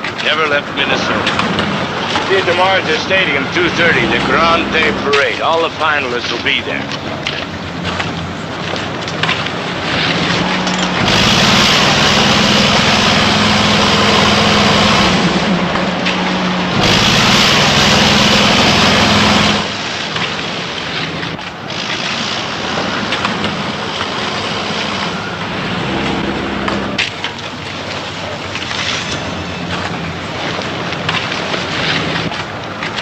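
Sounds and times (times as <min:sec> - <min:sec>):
vehicle engine running: 0:00.0 - 0:32.4.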